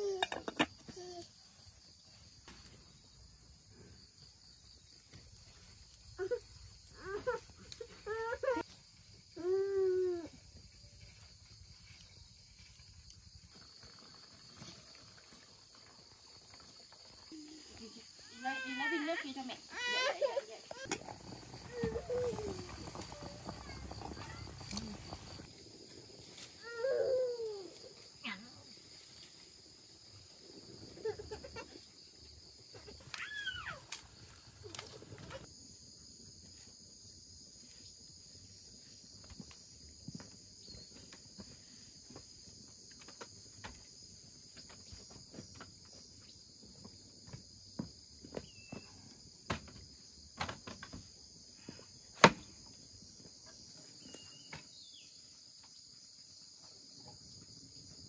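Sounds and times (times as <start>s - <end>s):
crickets chirping chorus: 0.0s - 58.0s.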